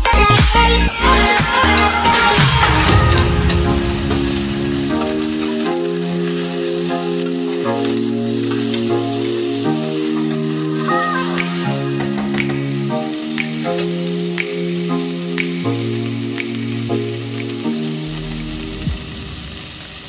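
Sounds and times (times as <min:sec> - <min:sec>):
soft music with held chords: 0:00.0 - 0:19.9.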